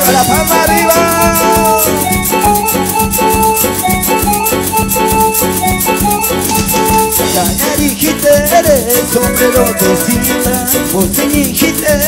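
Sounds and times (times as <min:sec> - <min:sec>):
live folk dance music: 0:00.0 - 0:12.0.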